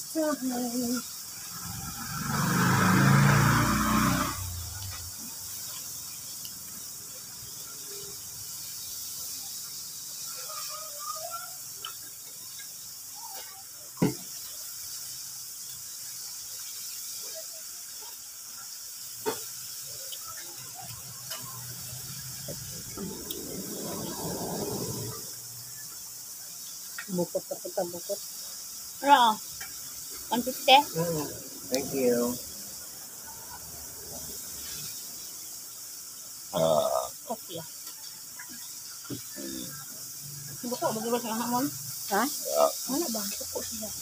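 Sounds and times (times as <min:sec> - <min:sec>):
background hiss: 0:00.0 - 0:44.0.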